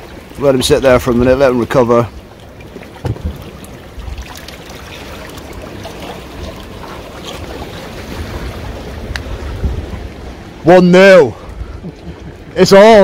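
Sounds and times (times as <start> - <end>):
water lapping among rocks: 0.0 - 10.6
wind buffeting microphone: 0.0 - 10.7, 11.3 - 13.0.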